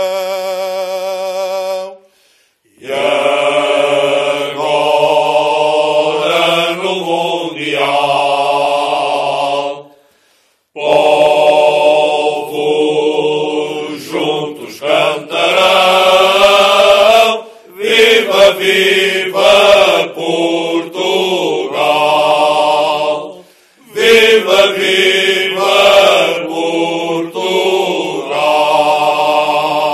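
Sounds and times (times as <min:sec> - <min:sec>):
male choir singing: 0:00.0 - 0:02.1, 0:02.7 - 0:10.0, 0:10.8 - 0:29.9.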